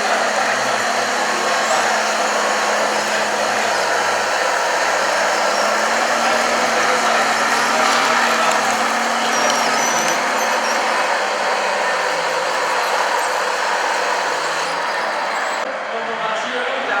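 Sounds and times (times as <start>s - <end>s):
small electric motors whirring: 0.0s - 15.6s.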